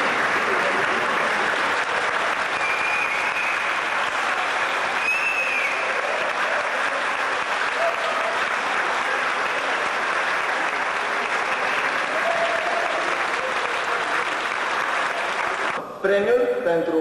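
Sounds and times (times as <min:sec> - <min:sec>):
audience applause: 0:00.0 - 0:15.8.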